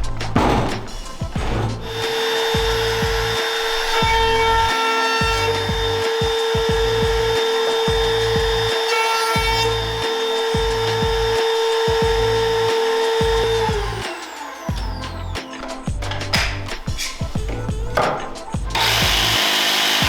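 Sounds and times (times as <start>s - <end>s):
background music with beat: 0.0s - 20.0s
power tool motor whining: 0.4s - 20.0s.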